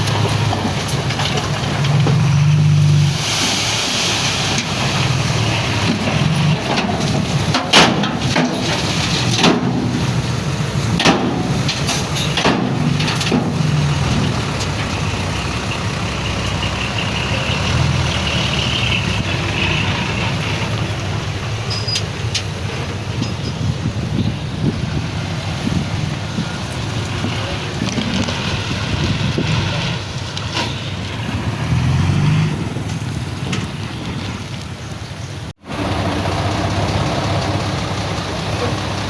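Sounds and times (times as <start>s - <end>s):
heavy diesel machinery running: 0.0s - 34.4s, 35.2s - 39.0s.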